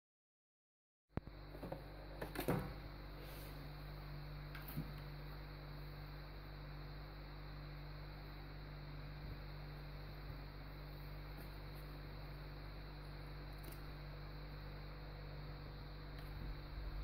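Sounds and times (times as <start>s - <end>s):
low electrical hum: 1.1s - 17.0s.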